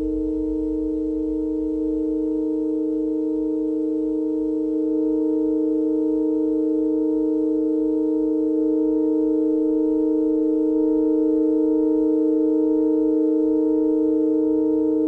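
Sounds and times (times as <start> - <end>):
electronic drone chord: 0.0 - 15.0
low pulsing throb: 0.0 - 15.0.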